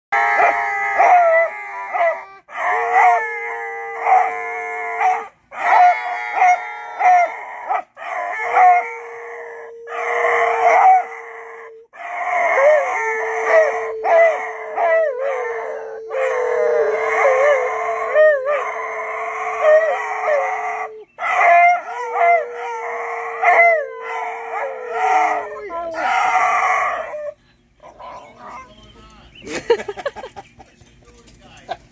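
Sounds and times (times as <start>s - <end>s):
man howling: 0.2s - 28.7s
dogs howling and baying: 0.2s - 30.4s.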